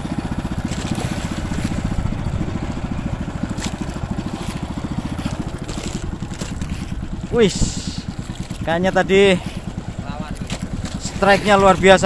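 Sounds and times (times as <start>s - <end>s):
boat engine puttering: 0.0s - 12.0s.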